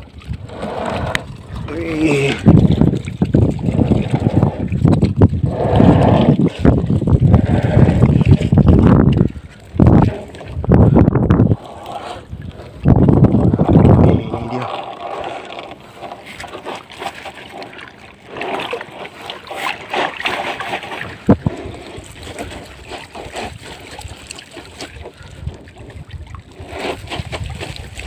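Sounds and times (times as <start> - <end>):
water splashing and dripping: 0.0 - 28.0.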